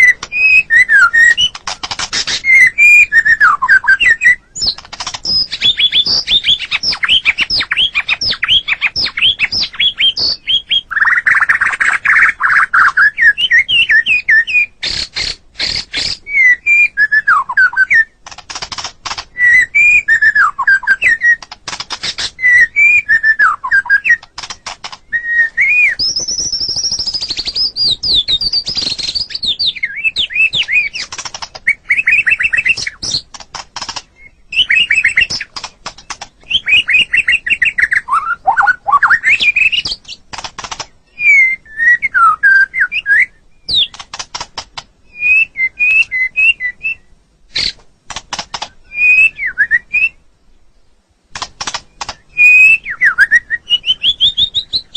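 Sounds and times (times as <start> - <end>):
bird singing varied song: 0.0 - 54.9.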